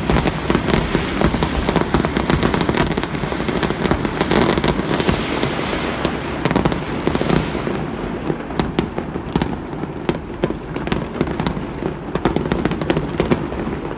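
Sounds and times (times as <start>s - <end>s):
fireworks booming: 0.0s - 13.9s
fireworks cracking and popping: 0.0s - 13.9s.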